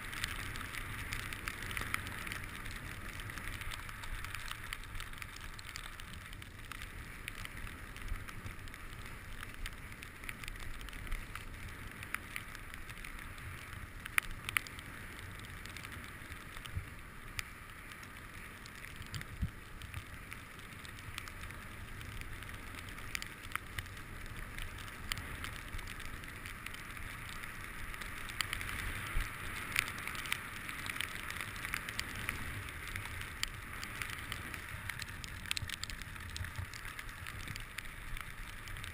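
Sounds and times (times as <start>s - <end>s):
skis sliding over snow: 0.0s - 38.9s.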